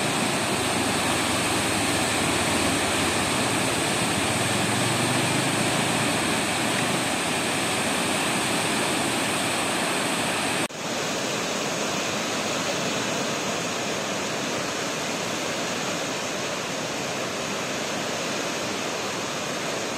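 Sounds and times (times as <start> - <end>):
river water rushing: 0.0 - 19.9.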